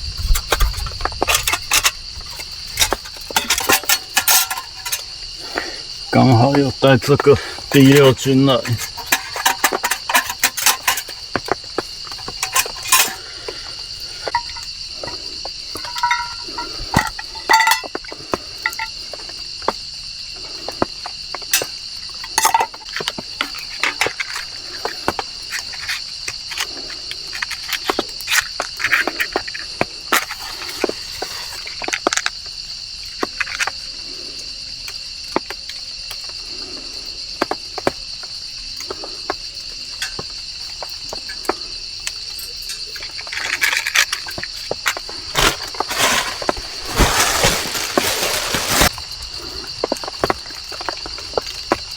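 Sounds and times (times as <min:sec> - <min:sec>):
crickets chirping: 0:00.0 - 0:51.9.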